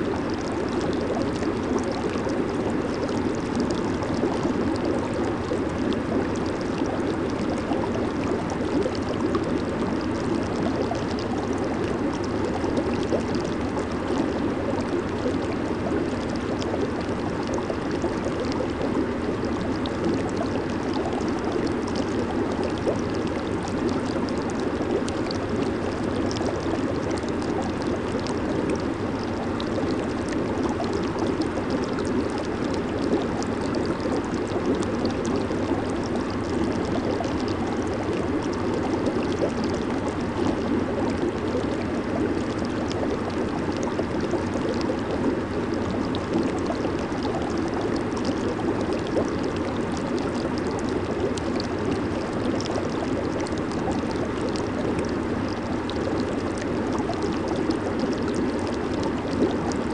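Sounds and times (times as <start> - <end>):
bursting bubbles crackling: 0.0 - 59.9
jacuzzi bubbling: 0.0 - 59.9.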